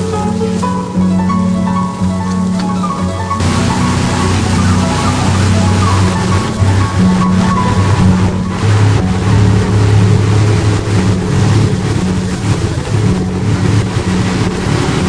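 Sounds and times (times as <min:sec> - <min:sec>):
boat engine droning: 0:00.0 - 0:15.0
rush of wind and water: 0:00.0 - 0:15.0.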